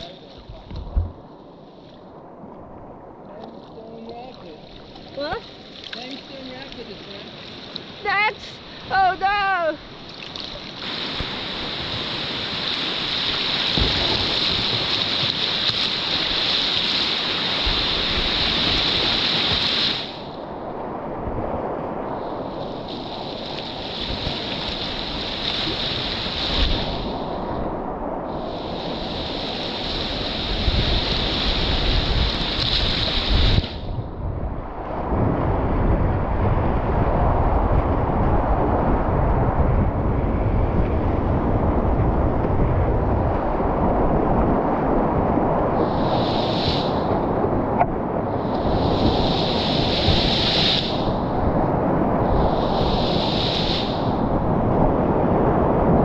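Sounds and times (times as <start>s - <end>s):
whitewater rushing and hissing: 0.0s - 2.2s, 3.3s - 56.0s
wind buffeting microphone: 0.0s - 10.1s, 10.8s - 56.0s.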